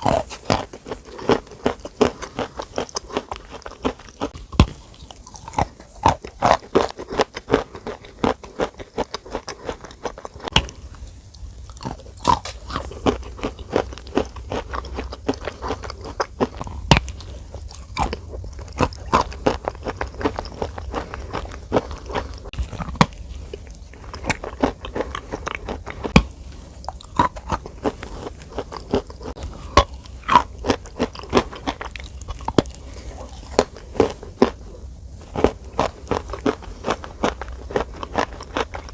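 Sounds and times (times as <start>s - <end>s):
crunching and clicking: 0.0s - 38.9s.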